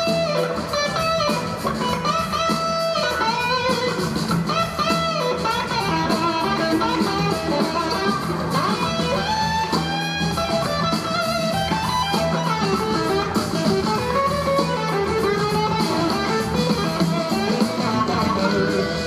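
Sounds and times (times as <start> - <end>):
blues rock band playing: 0.0 - 19.0
electric guitar with gliding notes: 0.0 - 19.0.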